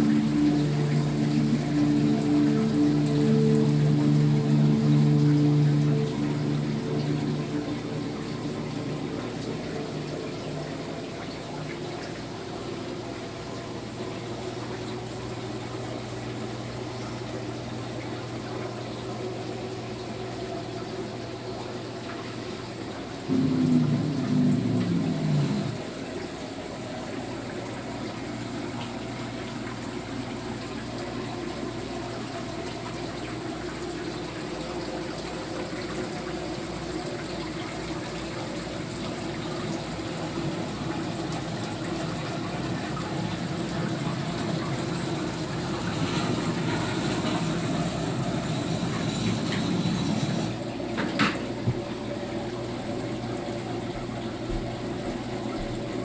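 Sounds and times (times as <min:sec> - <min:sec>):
aquarium water rushing: 0:00.0 - 0:56.0.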